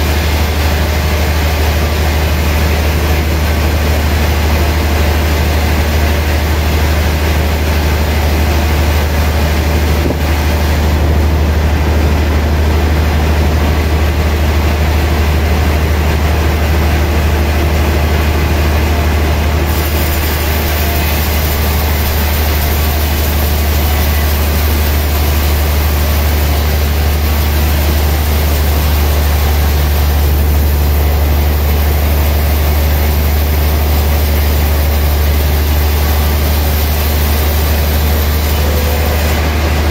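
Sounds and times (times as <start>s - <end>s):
band sawmill humming: 0.0s - 39.9s.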